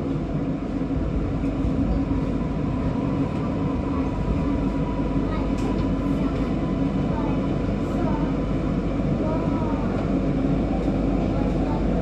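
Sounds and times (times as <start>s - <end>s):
metro train wheels rumbling: 0.0s - 12.0s.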